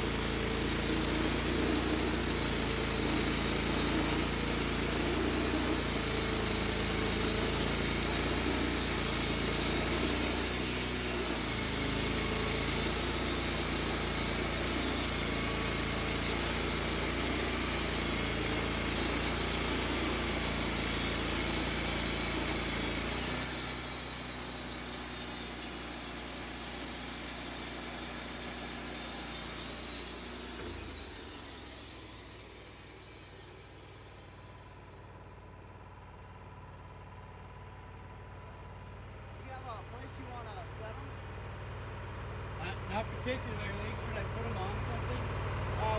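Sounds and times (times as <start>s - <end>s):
mobile sawmill milling a log: 0.0s - 45.9s.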